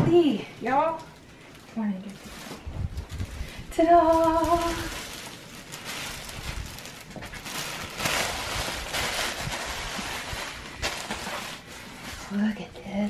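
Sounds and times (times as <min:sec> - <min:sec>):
plastic bag rustling and crinkling: 0:00.1 - 0:13.0.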